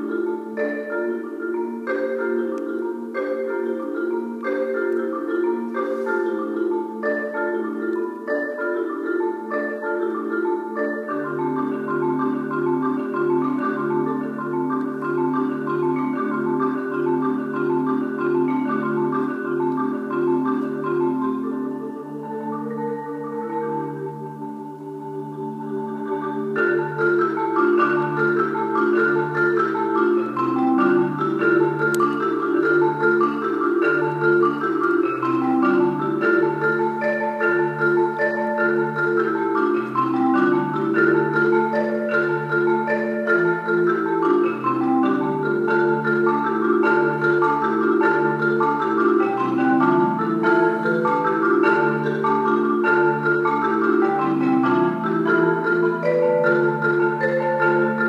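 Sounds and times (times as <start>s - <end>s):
solo marimba: 0.0s - 58.0s.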